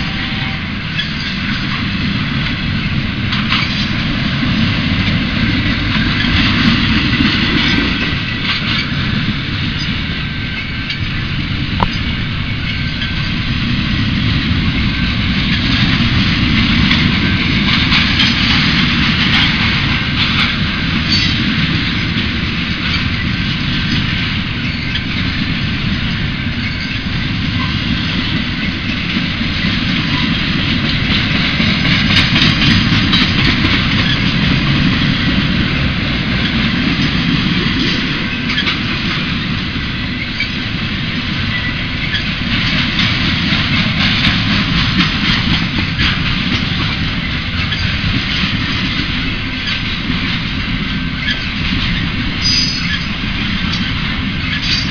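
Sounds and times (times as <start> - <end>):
freight train wheels rumbling on rails: 0.0 - 54.9.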